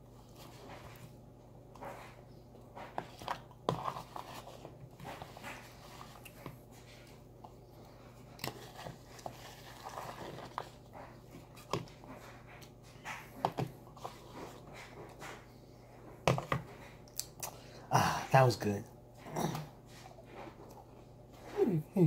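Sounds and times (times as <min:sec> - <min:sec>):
low steady hum: 0:00.0 - 0:22.0
soft eating sounds: 0:00.0 - 0:22.0.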